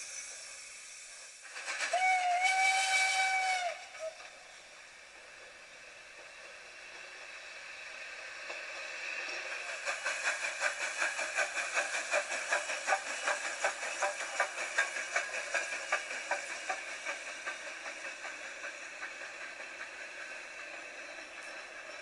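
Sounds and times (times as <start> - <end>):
hiss of steam: 0.0 - 22.0
steam locomotive chuffing: 0.0 - 22.0.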